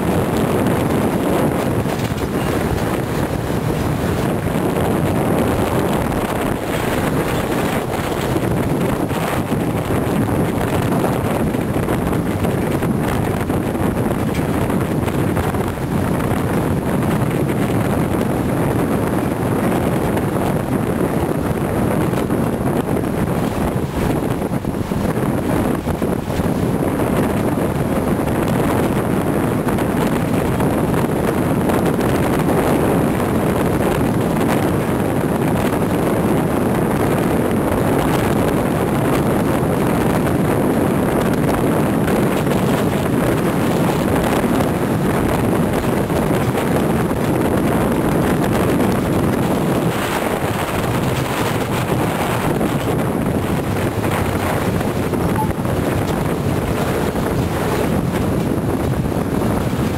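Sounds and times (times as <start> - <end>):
truck driving at road speed: 0.0 - 59.9
wind on microphone: 0.0 - 59.9.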